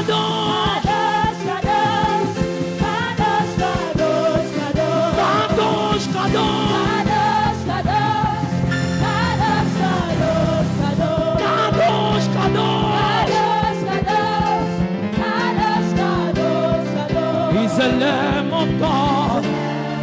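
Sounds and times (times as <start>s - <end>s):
gospel singing voices: 0.0s - 20.0s
sustained instrumental chords: 0.0s - 20.0s.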